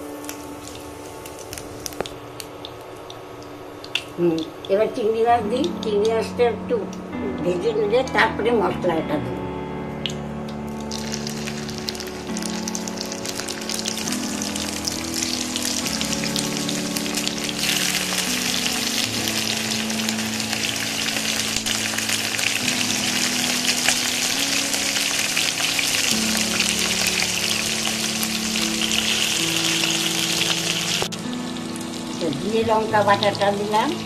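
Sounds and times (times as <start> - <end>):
prawns sizzling in hot oil: 0.0 - 5.0, 10.7 - 34.0
soft background music: 0.0 - 34.0.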